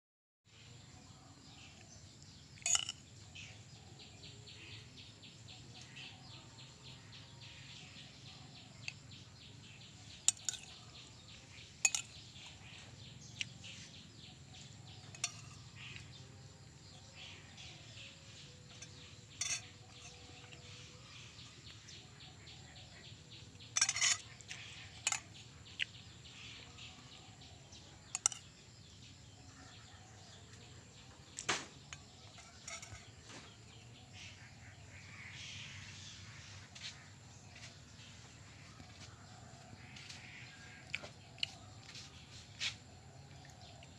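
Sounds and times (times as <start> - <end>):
small birds chirping: 0.5 - 43.9.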